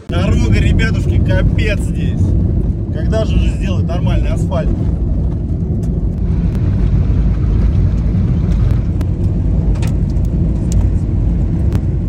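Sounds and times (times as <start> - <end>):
car driving on gravel: 0.0 - 12.0.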